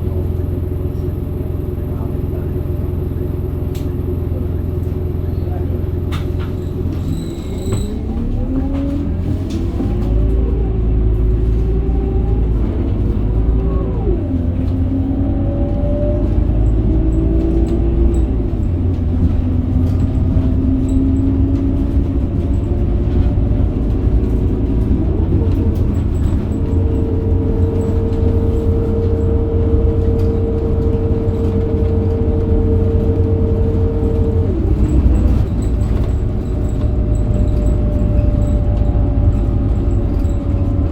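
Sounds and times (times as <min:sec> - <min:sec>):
bus engine accelerating: 0:00.0 - 0:40.9.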